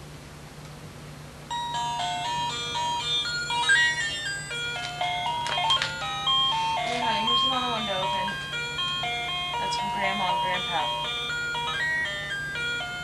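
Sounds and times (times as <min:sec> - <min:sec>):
electronic toy beeping tune: 0:01.5 - 0:13.0.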